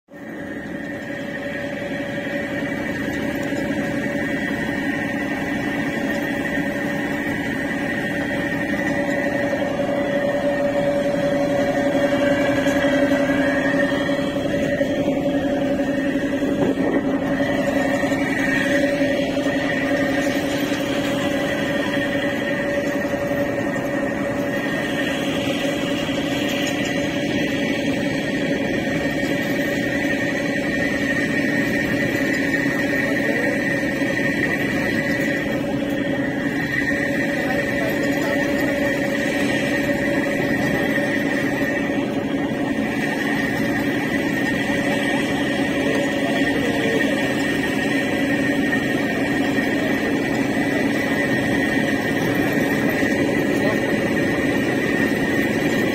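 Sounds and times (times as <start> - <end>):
ferry engine droning: 0.1 - 55.9.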